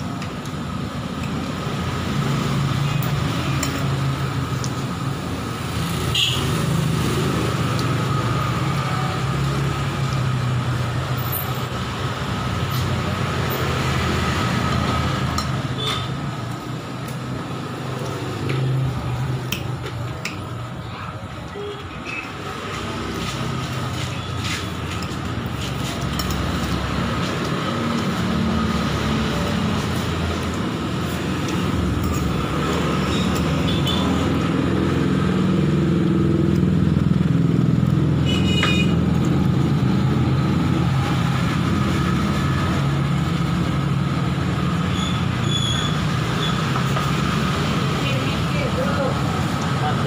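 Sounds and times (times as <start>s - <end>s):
vehicle engine rumbling: 0.0s - 50.0s.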